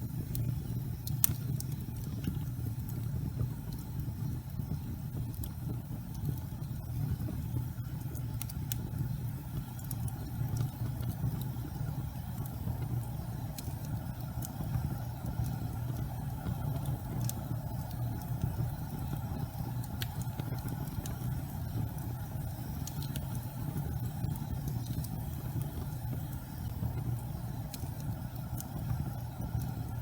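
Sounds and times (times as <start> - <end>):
fire crackles and ticks: 0.0 - 30.0
gas fire flame rumble: 0.0 - 30.0.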